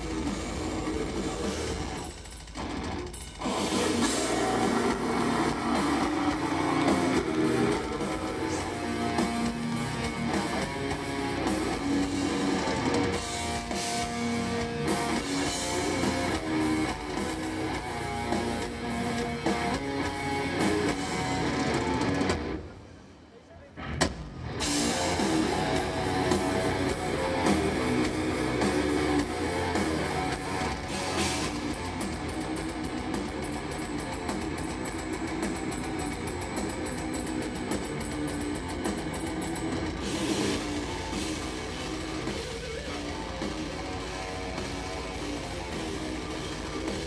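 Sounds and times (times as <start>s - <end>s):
drum kit: 0.0s - 22.9s, 23.8s - 47.0s
distorted electric guitar: 0.0s - 47.0s.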